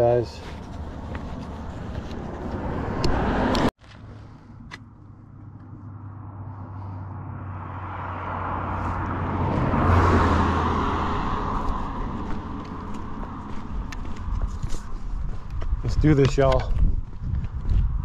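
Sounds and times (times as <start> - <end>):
vehicle passing on road: 0.0 - 18.0.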